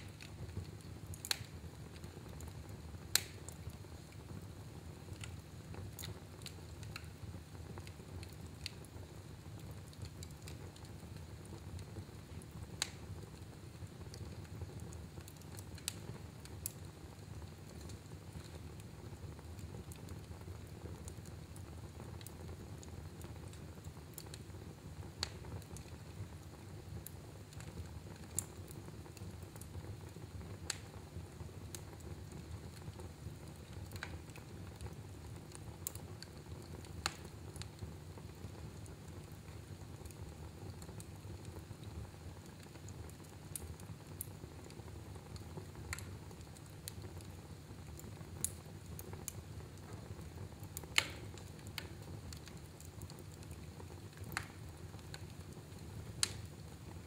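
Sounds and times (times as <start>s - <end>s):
fire burning in a fireplace: 0.0s - 57.0s
fire crackles and pops: 0.0s - 57.0s.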